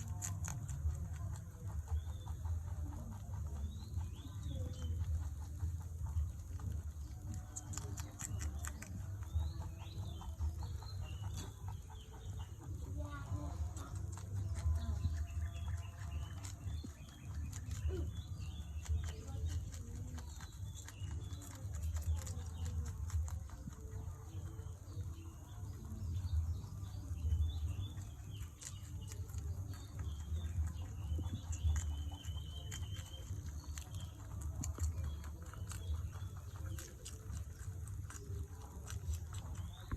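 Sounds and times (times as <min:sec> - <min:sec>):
rabbits chewing food: 0:00.0 - 0:39.9
steady low rumble: 0:00.0 - 0:39.9.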